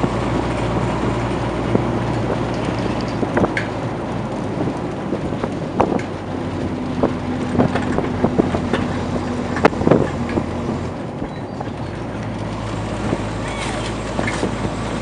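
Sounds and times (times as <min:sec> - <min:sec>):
road and wind noise: 0:00.0 - 0:15.0
vehicle engine running: 0:00.0 - 0:15.0
knocks and rattles: 0:01.7 - 0:15.0.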